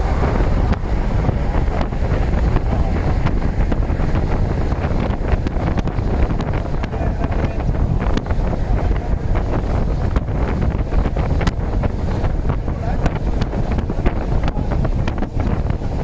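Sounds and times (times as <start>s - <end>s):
freight train rolling past: 0.0s - 14.1s
wind buffeting microphone: 0.0s - 16.0s.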